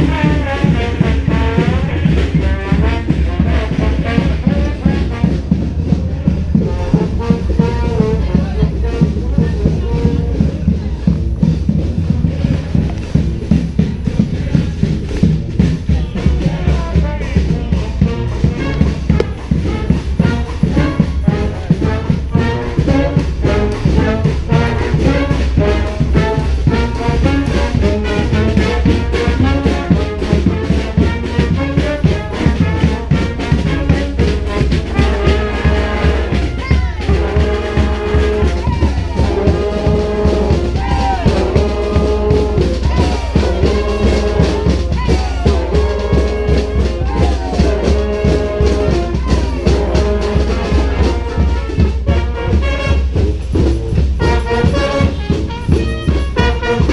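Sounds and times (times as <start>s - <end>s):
brass band playing: 0.0s - 56.9s
driving drum beat: 0.0s - 56.9s
horns playing falling riff: 0.0s - 56.9s.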